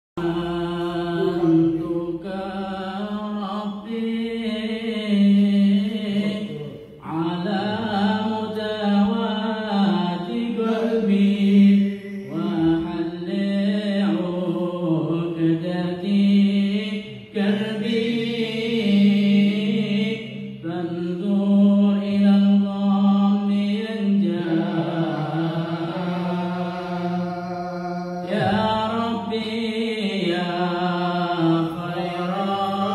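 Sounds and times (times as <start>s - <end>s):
man chanting over loudspeaker: 0.2s - 32.9s.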